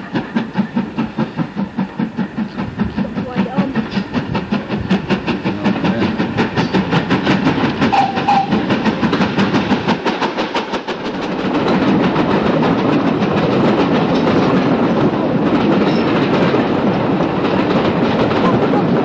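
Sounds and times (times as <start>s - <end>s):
steam locomotive rapid beat: 0.0s - 19.0s
train coaches rumbling and clattering: 0.0s - 19.0s.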